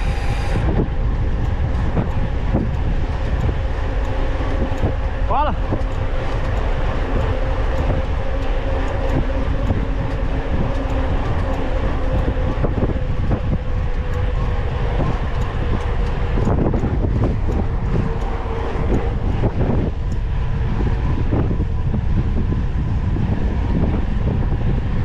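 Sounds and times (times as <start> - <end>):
bike rattling clicks: 0.0 - 20.3
wind buffeting microphone: 0.0 - 25.0.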